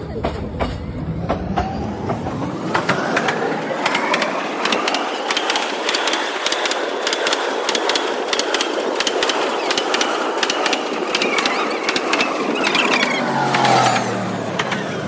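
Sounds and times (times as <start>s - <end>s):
train rumbling past: 0.0s - 15.0s
wheels clicking over rails: 0.0s - 15.0s.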